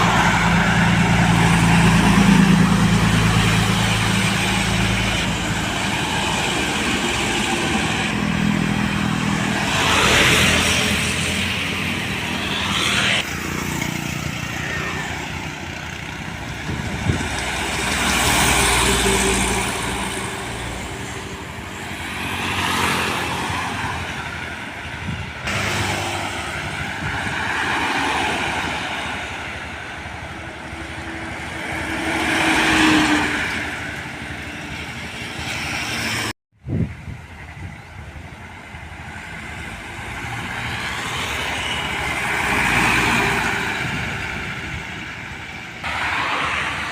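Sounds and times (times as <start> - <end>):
heavy vehicles driving past: 0.0 - 36.8, 37.4 - 46.9.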